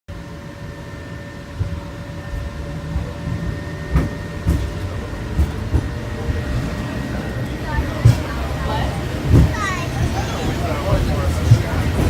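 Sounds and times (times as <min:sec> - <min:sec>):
tram rumbling on rails: 0:00.1 - 0:12.0.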